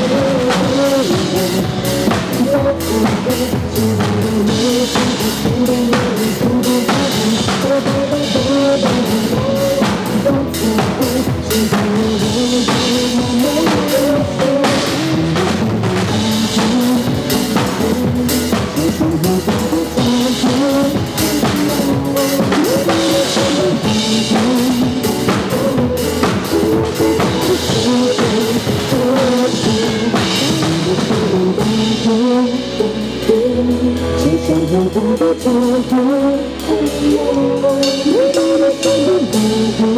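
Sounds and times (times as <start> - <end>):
drum kit beat: 0.0 - 39.9
pop backing track: 0.0 - 39.9.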